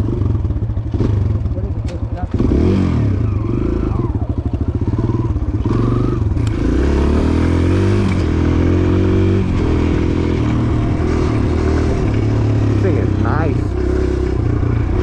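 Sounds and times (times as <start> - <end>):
small motorcycle engine shifting gears: 0.0 - 15.0.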